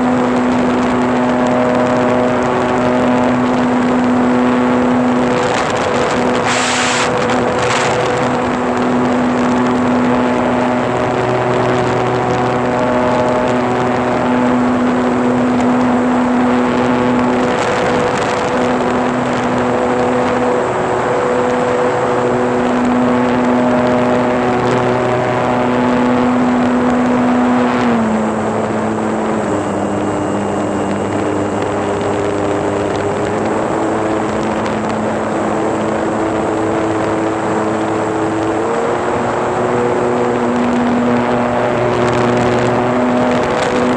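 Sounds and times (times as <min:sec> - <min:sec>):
model plane motor and propeller: 0:00.0 - 0:43.9
wind on microphone: 0:00.0 - 0:43.9.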